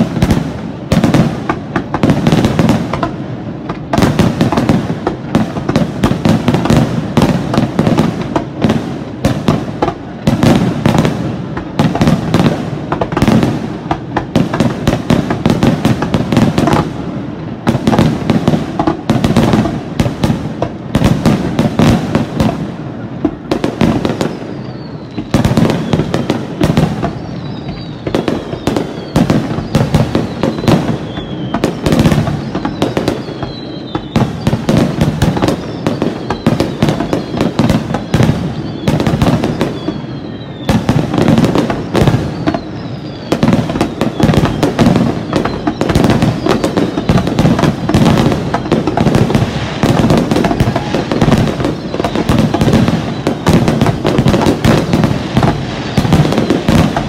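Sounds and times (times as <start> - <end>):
falling firework whistles: 0.0 - 57.0.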